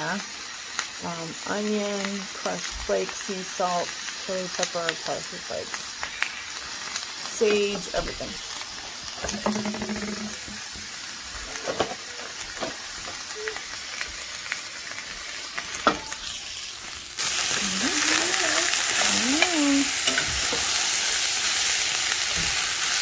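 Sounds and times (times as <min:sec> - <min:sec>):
vegetables sizzling in a pan: 0:00.0 - 0:23.0.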